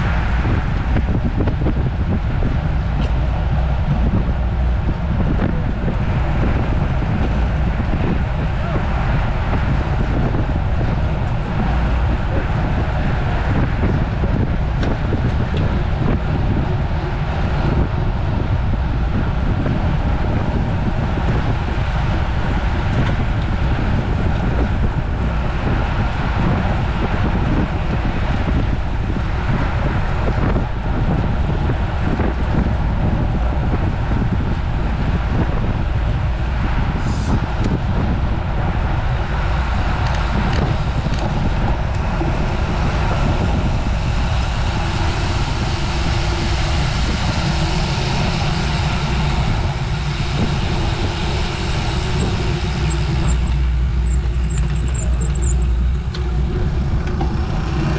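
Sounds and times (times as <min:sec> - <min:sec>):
tyre and road noise: 0:00.0 - 0:57.9
wind rushing over microphone: 0:00.0 - 0:57.9.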